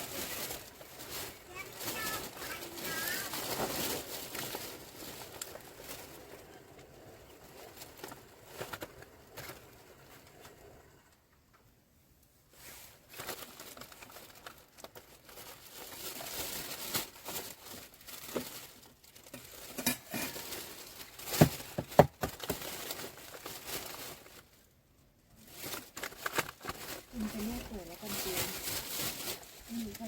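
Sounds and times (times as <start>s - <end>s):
plastic packaging crinkling: 0.0s - 10.1s, 12.5s - 30.0s.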